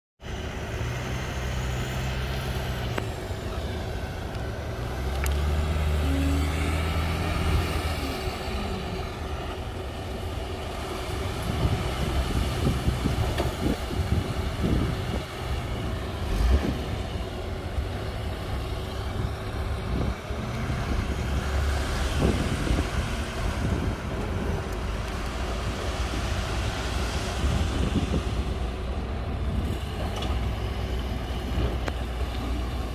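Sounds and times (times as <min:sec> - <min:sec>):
diesel truck engine revving: 0:00.2 - 0:32.9.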